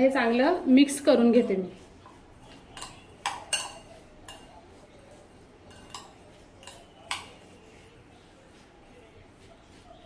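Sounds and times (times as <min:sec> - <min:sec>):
food mixed by hand in bowl: 0:00.0 - 0:10.0.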